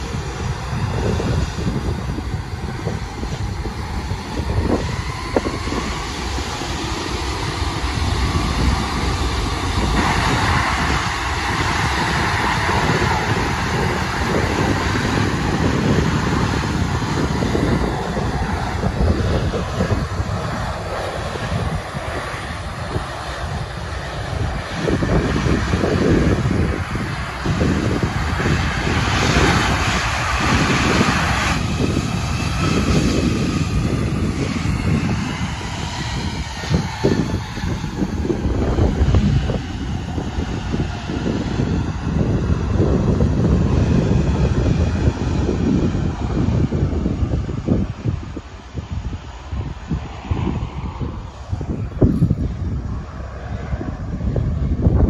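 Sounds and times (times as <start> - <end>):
jet engines whining: 0.0 - 55.0
wind rumble on microphone: 0.0 - 55.0.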